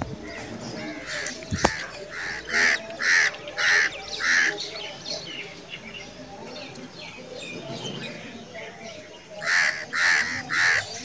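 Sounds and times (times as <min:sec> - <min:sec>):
bird calling: 0:00.0 - 0:08.4, 0:09.3 - 0:11.0.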